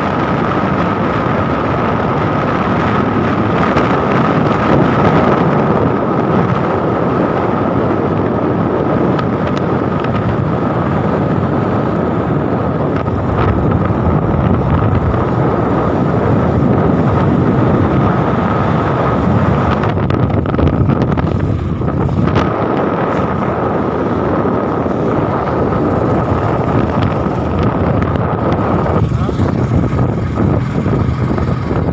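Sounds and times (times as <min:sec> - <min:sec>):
wind rushing over microphone: 0:00.0 - 0:31.9.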